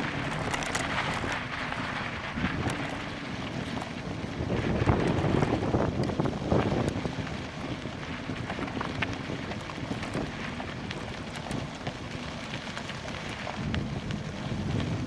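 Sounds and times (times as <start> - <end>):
bicycle rattling on rough trail: 0.0 - 15.0
wind buffeting microphone: 0.0 - 15.0.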